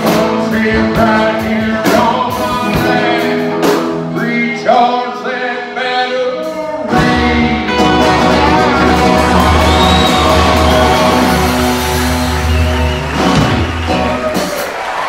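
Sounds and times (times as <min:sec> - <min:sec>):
person singing: 0:00.0 - 0:12.7
country rock band playing: 0:00.0 - 0:15.0.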